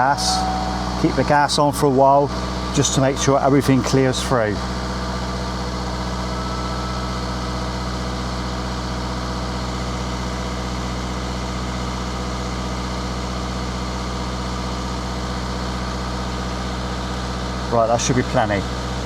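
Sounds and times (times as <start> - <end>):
diesel engine running: 0.0 - 18.6.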